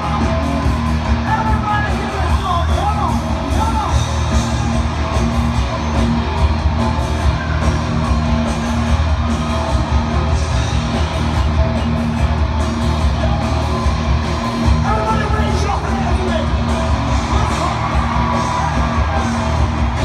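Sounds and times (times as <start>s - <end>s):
live concert music: 0.0s - 20.0s.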